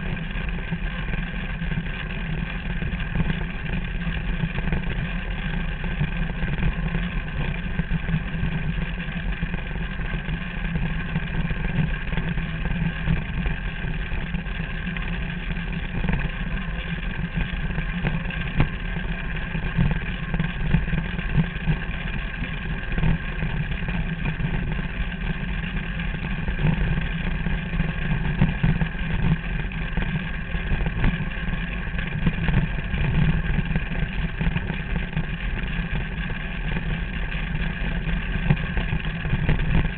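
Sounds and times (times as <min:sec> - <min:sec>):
small motor droning: 0:00.0 - 0:39.9.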